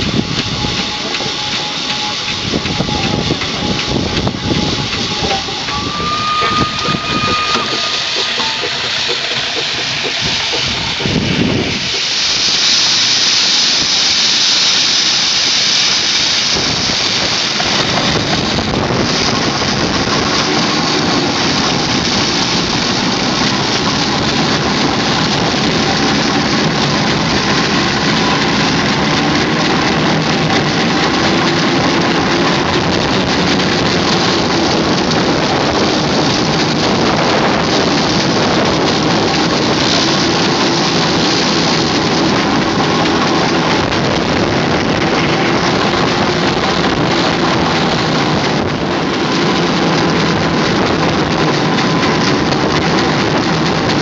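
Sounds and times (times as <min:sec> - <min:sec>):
steam engine working: 0:00.0 - 0:54.0.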